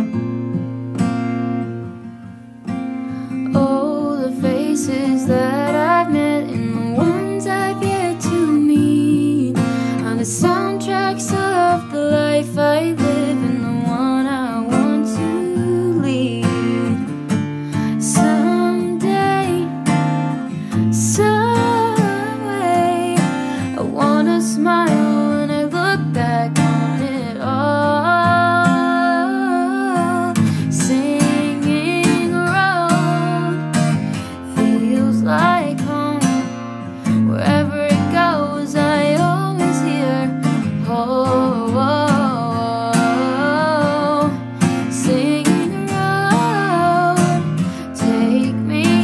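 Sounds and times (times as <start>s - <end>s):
strummed acoustic guitar: 0.0s - 49.0s
person singing: 3.4s - 17.2s, 17.8s - 49.0s.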